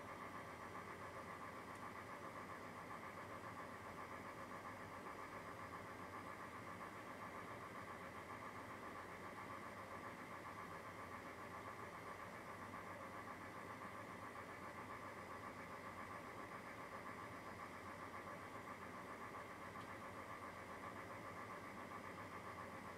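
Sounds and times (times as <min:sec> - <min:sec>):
low mechanical hum: 0:00.0 - 0:22.9.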